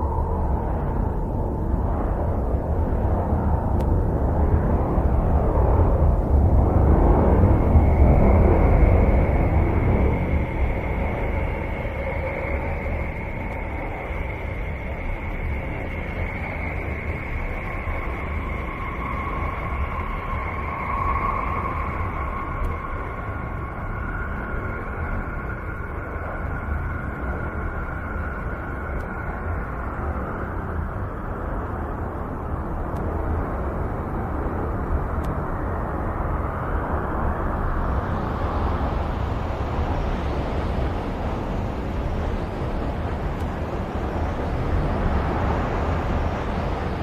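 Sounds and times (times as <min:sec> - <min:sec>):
faint steady tones: 0:00.0 - 0:47.0
rumbling hissing drone: 0:00.0 - 0:47.0.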